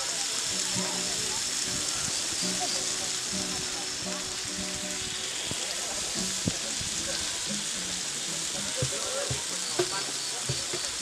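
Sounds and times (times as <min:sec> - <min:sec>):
meat sizzling in grill pan: 0:00.0 - 0:11.0.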